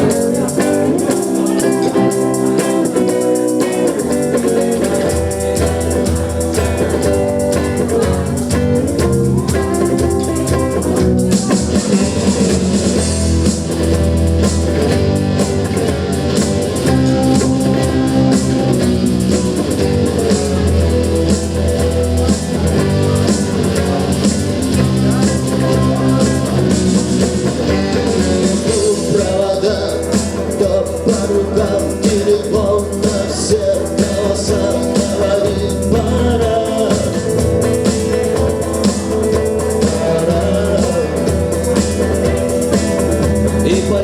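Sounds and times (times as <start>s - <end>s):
bass line: 0.0s - 44.0s
drums: 0.0s - 44.0s
rock guitar: 0.0s - 44.0s.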